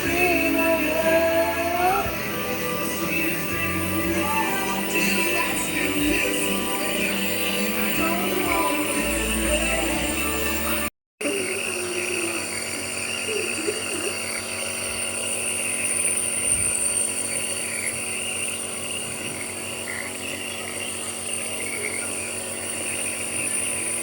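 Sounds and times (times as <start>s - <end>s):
nebulizer motor humming: 0.0s - 24.0s.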